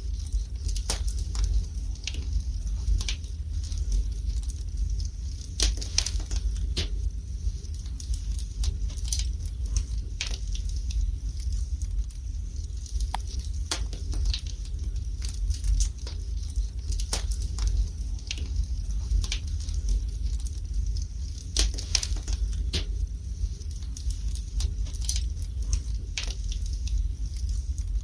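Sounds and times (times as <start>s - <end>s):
low rumble of fire: 0.0s - 28.0s
wood fire crackling and popping: 0.0s - 28.0s.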